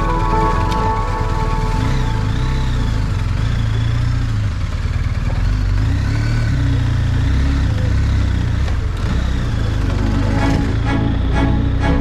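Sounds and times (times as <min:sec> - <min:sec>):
motorcycle engine at low revs: 0:00.0 - 0:11.1.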